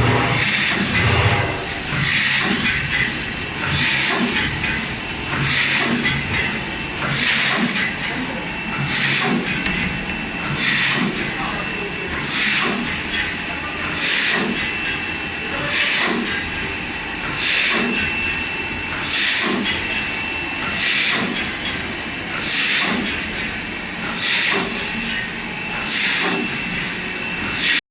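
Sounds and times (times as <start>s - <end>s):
machine hum with high whine: 0.0s - 27.8s.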